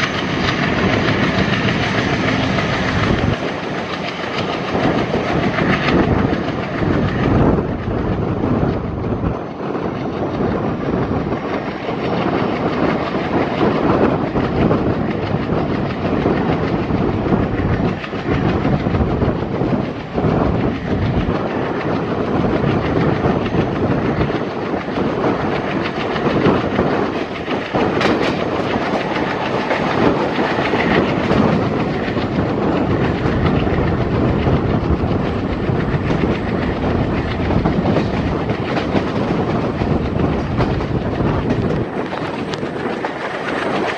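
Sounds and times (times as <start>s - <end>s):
diesel locomotives chugging: 0.0s - 43.9s
train wheels clicking over rail joints: 0.0s - 43.9s.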